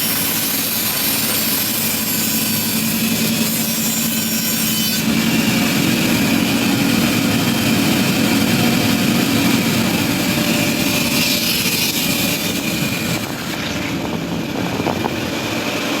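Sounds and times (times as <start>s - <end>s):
wood machinery droning: 0.1s - 16.0s.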